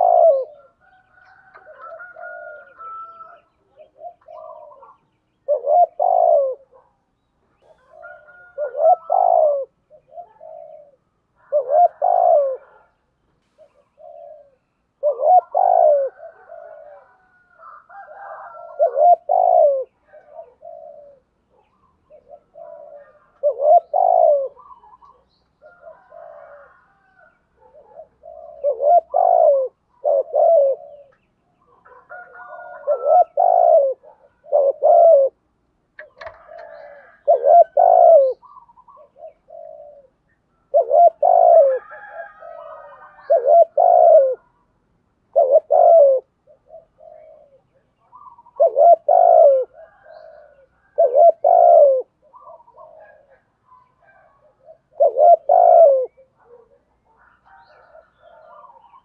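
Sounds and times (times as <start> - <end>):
dove cooing: 0.0 - 7.0, 7.6 - 44.7, 45.3 - 59.0.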